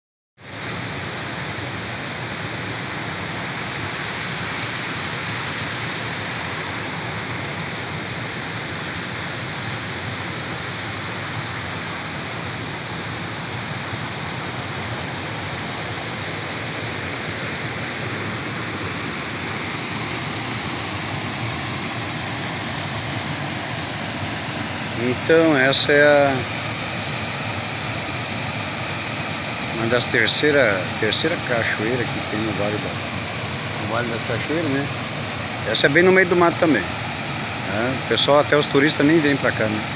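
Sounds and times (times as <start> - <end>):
small waterfall rushing: 0.4 - 39.9.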